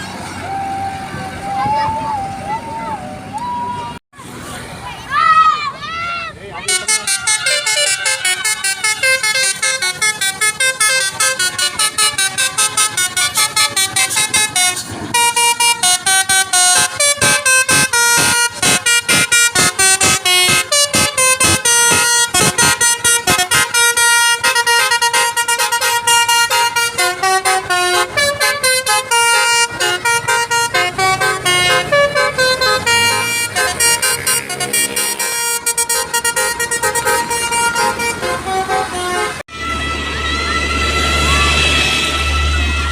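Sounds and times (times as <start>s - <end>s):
bus horn playing fast melody: 6.6s - 42.9s.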